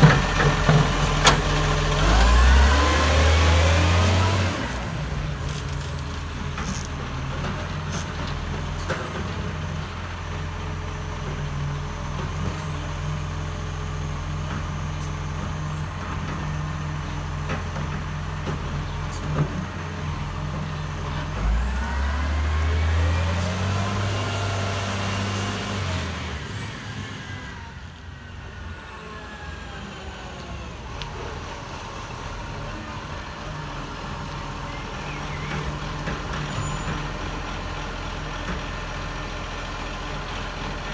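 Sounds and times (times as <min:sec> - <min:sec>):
garbage truck diesel engine: 0:00.0 - 0:40.9.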